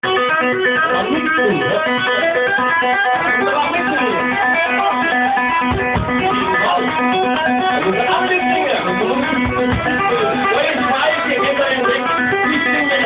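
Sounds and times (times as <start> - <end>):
band playing a song: 0.0 - 13.0
guitar plucked note runs: 0.0 - 13.0.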